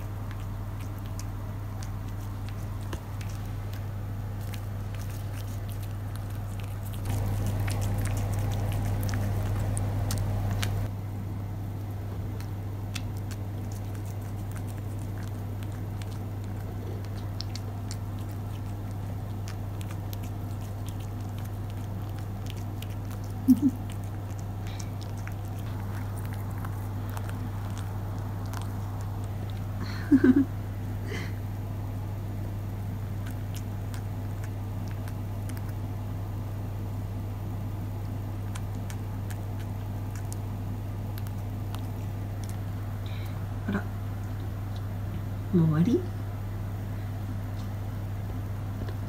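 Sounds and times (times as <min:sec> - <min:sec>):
cat chewing and licking: 0:00.0 - 0:11.0, 0:11.6 - 0:31.0, 0:31.8 - 0:45.2
steady low hum: 0:00.0 - 0:49.0.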